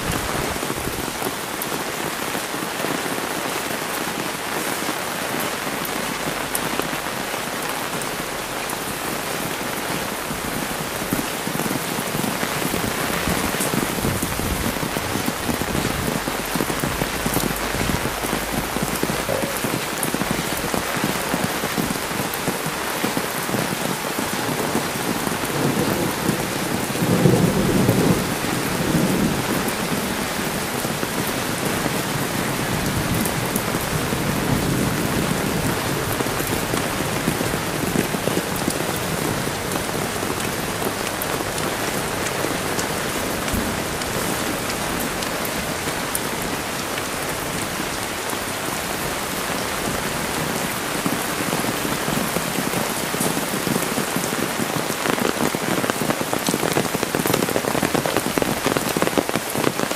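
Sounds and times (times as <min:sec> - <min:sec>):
heavy rain on an umbrella: 0:00.0 - 0:59.9.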